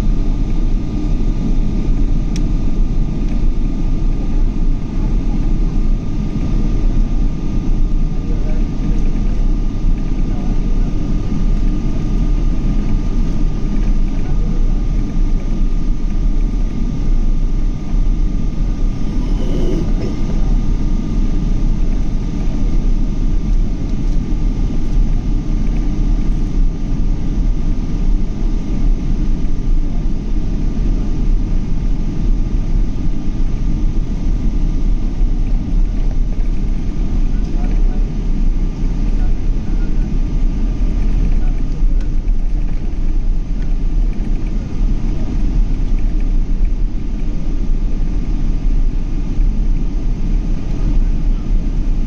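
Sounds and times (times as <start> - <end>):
jet engine rumble in cabin: 0.0 - 52.0
thin steady whine: 0.0 - 52.0.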